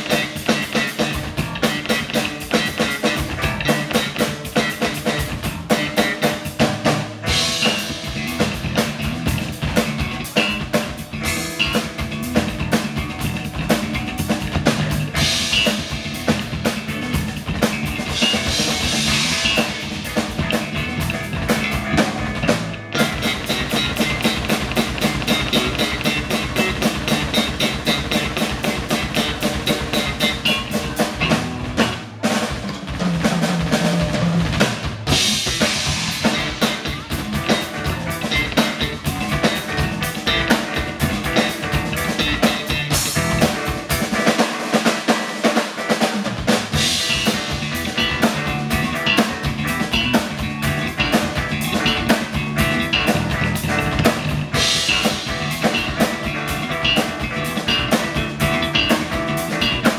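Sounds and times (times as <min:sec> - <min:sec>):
drum kit played busily: 0:00.0 - 0:59.9
live band playing: 0:00.0 - 0:59.9.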